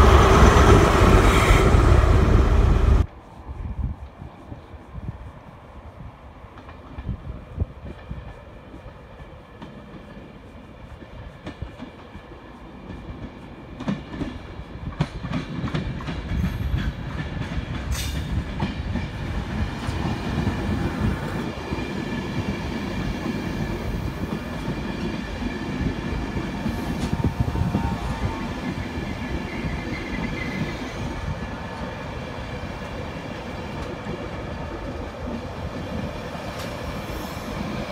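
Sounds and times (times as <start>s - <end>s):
passenger train rumbling past: 0.0s - 37.9s.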